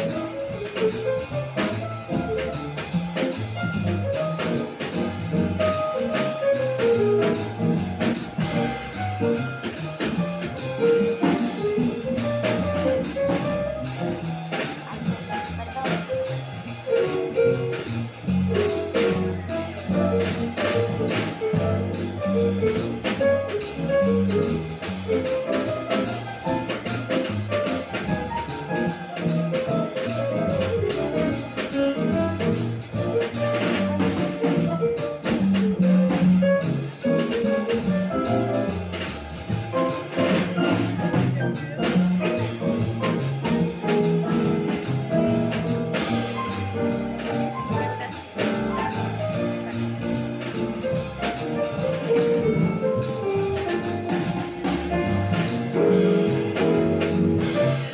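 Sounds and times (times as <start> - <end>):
drum kit with cymbal strokes: 0.0 - 57.9
stage keyboard playing jazz: 0.0 - 57.9
upright double bass: 0.0 - 57.9.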